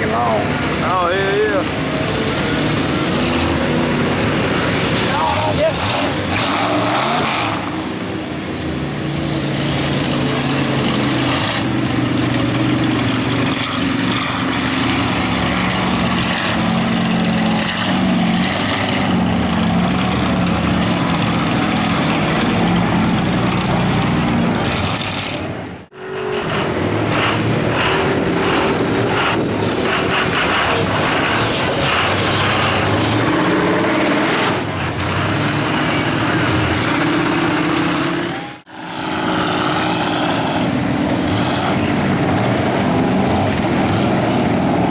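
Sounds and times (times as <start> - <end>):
constant noisy wash: 0.0 - 44.9
truck engine revving hard: 0.0 - 44.9.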